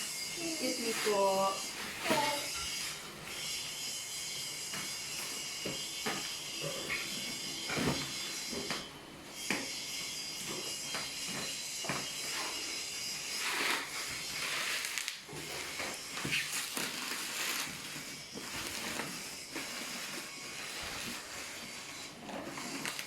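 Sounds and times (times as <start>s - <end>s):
cardboard and plastic rustling: 0.4s - 3.6s, 4.7s - 8.9s, 10.5s - 23.0s.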